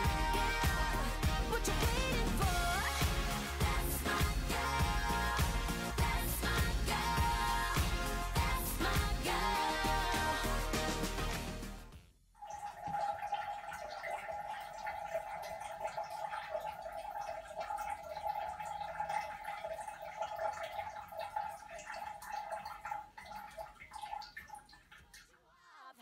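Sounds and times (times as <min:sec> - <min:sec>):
liquid trickling into water: 0:00.0 - 0:10.5, 0:12.4 - 0:25.4.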